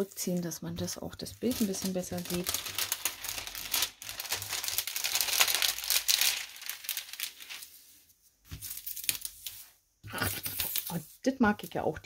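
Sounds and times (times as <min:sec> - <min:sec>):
plastic film crinkling: 0:00.0 - 0:11.8.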